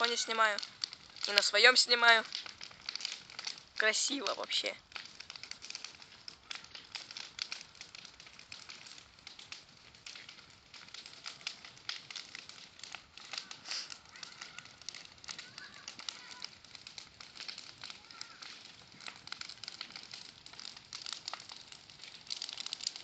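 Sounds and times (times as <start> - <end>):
bonfire crackling: 0.0 - 23.0.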